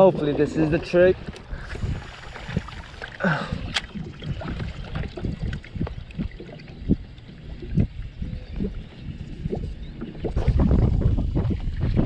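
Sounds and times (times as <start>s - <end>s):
low rumble of wind: 0.0s - 12.0s.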